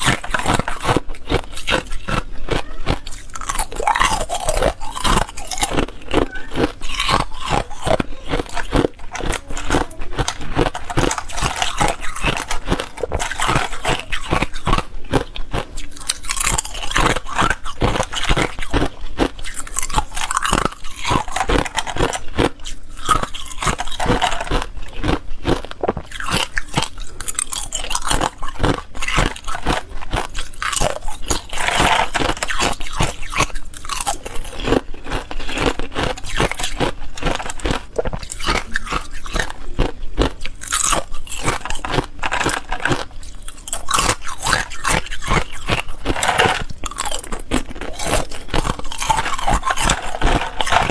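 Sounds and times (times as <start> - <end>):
ice being chewed: 0.0 - 50.9.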